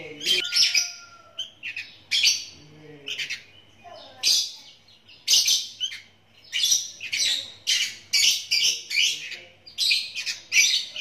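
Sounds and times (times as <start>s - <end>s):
young birds rasping calls: 0.0s - 11.0s.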